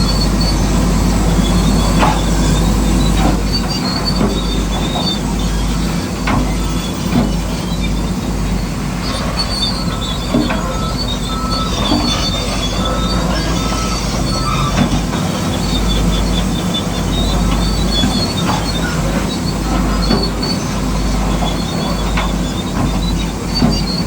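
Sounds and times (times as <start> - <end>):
high squeaks: 0.0 - 24.0
small electric motors whining: 0.0 - 24.0.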